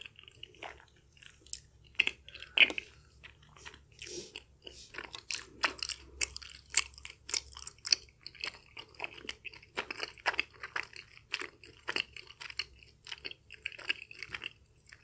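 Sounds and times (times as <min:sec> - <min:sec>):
wet chewing mouth clicks: 0:00.0 - 0:15.0.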